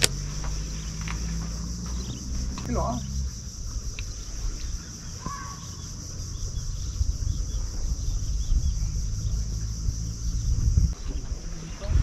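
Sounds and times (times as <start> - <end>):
high-pitched insect drone: 0.0 - 11.0
bird-like chirp: 0.0 - 11.3
low microphone rumble: 0.0 - 12.0.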